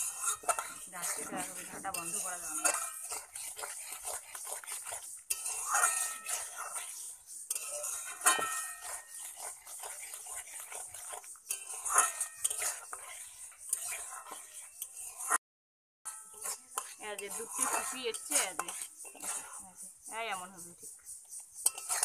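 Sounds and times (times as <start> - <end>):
metal spatula scraping metal pan: 0.0 - 15.4, 16.1 - 22.0.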